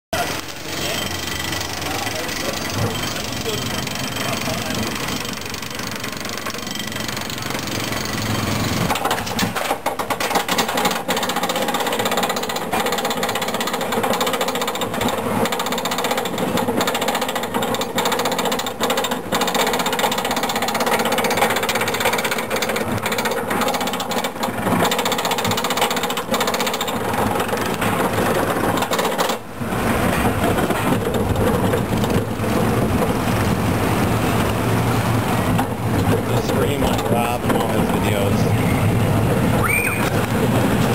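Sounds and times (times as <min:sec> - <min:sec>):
wheels rumbling on track: 0:00.2 - 0:40.9.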